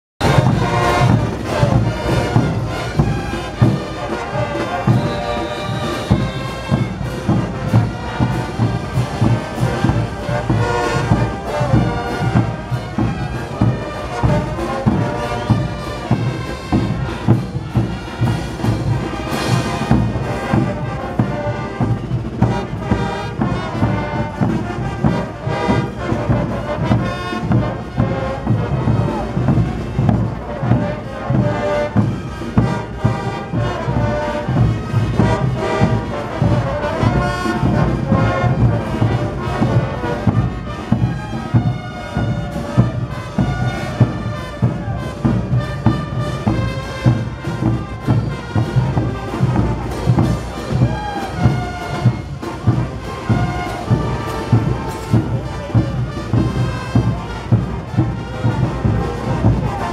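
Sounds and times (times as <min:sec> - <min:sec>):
brass band melody: 0:00.2 - 0:59.9
heavy steady drum beat: 0:00.2 - 0:59.9.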